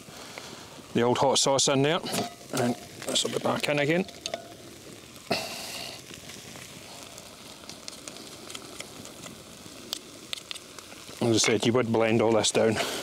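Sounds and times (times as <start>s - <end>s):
pot sizzling and crackling: 0.0s - 13.0s.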